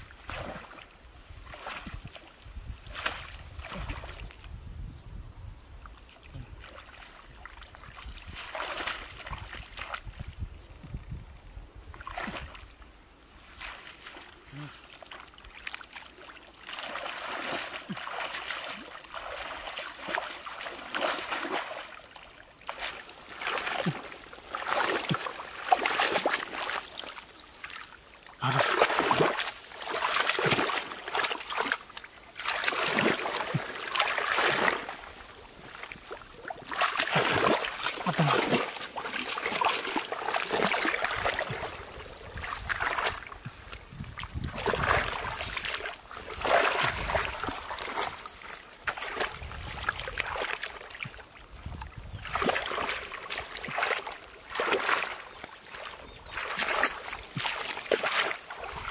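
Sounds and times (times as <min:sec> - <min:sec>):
muddy water sloshing and splashing: 0:00.0 - 0:04.5, 0:05.9 - 0:10.4, 0:11.9 - 0:58.9.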